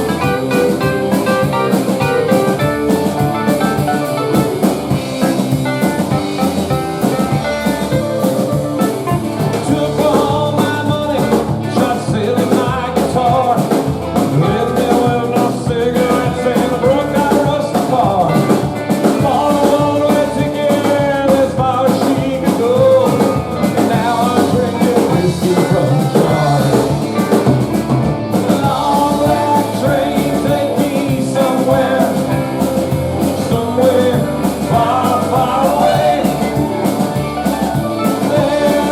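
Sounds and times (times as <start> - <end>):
electric guitar: 0.0 - 38.9
steady drum beat: 0.0 - 38.9
person singing: 7.0 - 27.6, 28.3 - 38.9.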